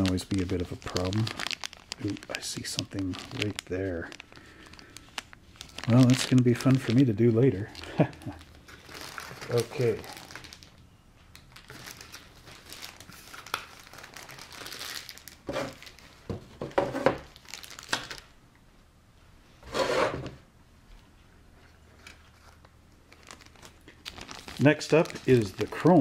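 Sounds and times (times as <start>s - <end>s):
plastic bags crinkling: 0.0s - 16.4s, 17.2s - 18.3s, 22.0s - 26.0s.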